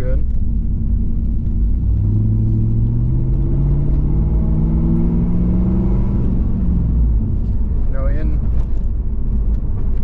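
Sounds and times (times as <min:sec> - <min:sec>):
car engine accelerating: 0:00.2 - 0:10.0.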